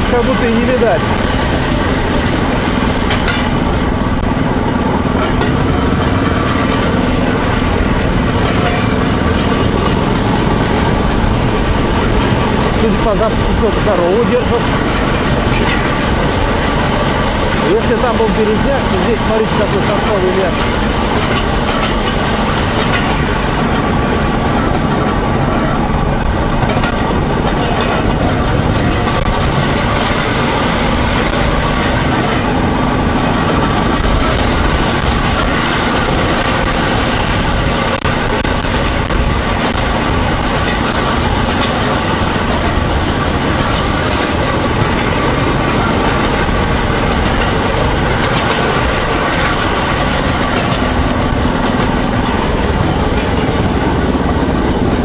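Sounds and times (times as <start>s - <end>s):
rail trolley engine running: 0.0s - 55.0s
wheels rolling over rails: 0.0s - 55.0s.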